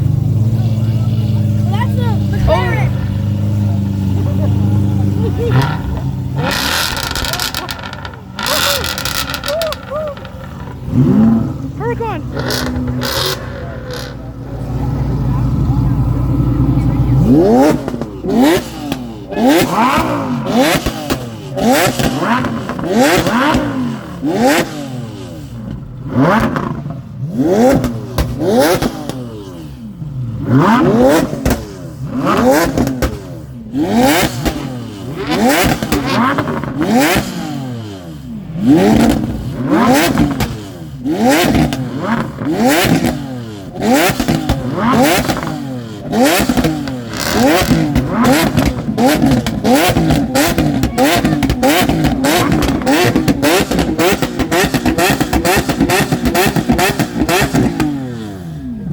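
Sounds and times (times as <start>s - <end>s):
engine crackles: 0.0s - 58.9s
sports car engine revving: 0.0s - 58.9s.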